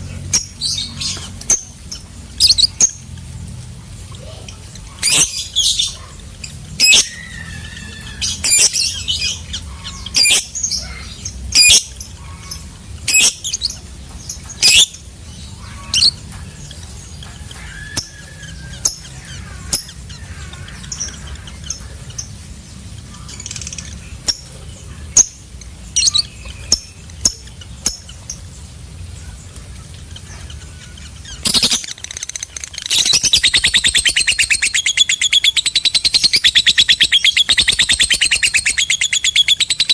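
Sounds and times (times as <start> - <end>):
lovebird chirping: 0.0 - 3.4, 4.0 - 39.9
lovebird chattering trill: 4.0 - 28.5, 30.0 - 39.9.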